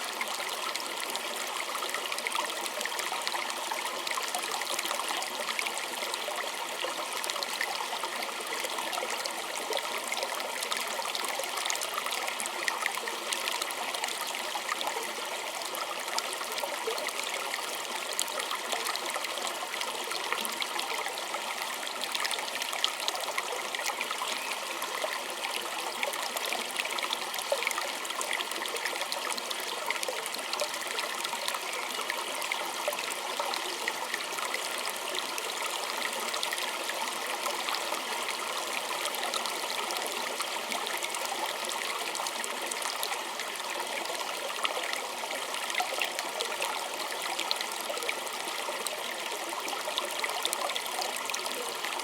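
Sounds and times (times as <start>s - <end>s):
stream trickling over stones: 0.0s - 52.0s.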